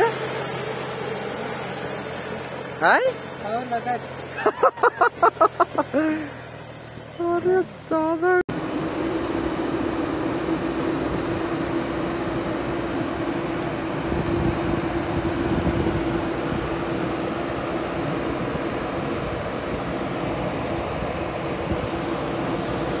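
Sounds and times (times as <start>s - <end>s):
diesel engine under load: 0.0s - 23.0s
steady humming tone: 4.3s - 23.0s.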